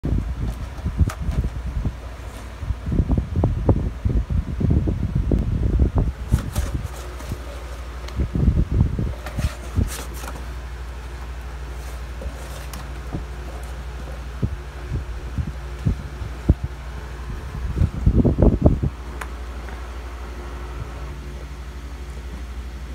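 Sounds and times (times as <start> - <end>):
low motor hum: 0.0 - 22.9.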